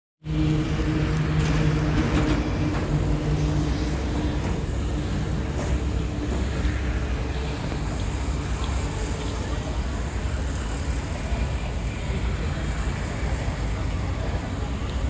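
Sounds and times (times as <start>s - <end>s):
heavy diesel machinery running: 0.2s - 15.0s.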